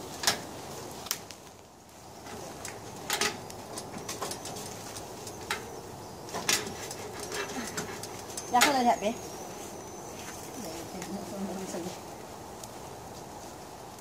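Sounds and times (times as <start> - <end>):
charcoal fire hissing: 0.0 - 14.0
fire crackles and pops: 0.0 - 14.0.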